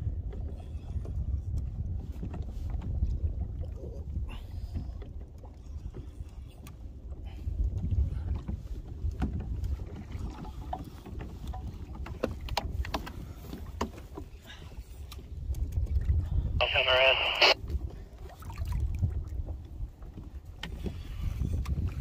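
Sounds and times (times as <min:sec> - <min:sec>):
water slapping kayak hull: 0:00.0 - 0:22.0
wind rumbling on microphone: 0:00.0 - 0:22.0.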